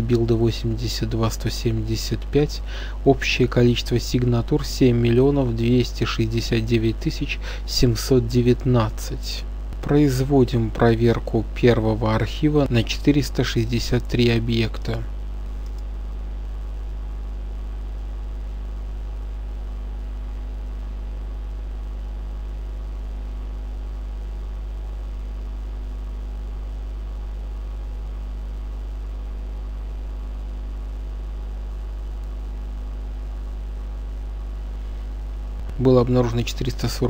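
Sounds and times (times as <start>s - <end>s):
faint hiss: 0.0s - 37.0s
low electrical hum: 0.0s - 37.0s.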